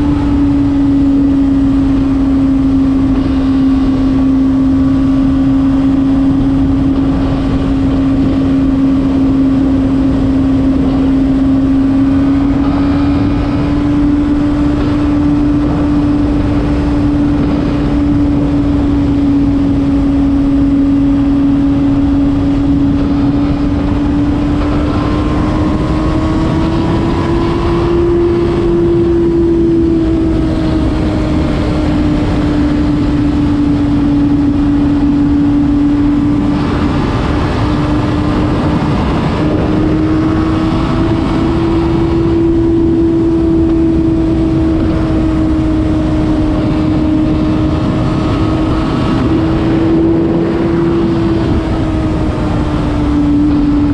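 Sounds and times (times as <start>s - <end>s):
motorcycle engine at high speed: 0.0s - 53.9s
rush of noise: 0.0s - 53.9s.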